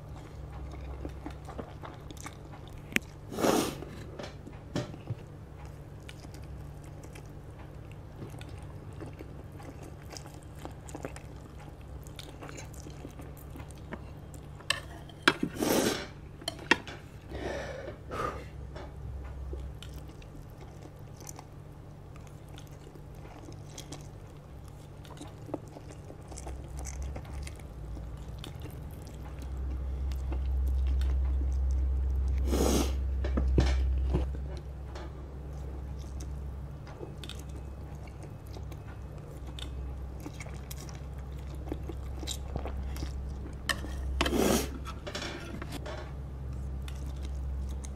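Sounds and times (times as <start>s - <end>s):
chewing noodles: 0.0s - 16.0s, 19.2s - 33.0s, 35.4s - 45.8s, 46.5s - 47.9s.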